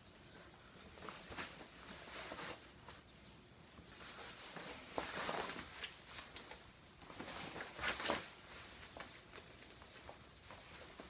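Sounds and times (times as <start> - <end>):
fabric rustling: 0.2 - 11.0.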